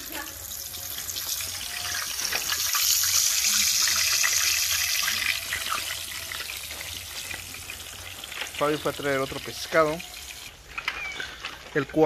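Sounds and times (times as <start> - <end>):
fish sizzling in hot oil: 0.0 - 10.6.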